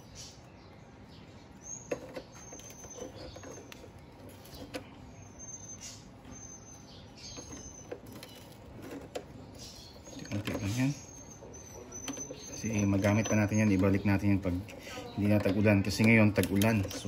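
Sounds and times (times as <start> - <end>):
high bird chirps: 0.0 - 17.0.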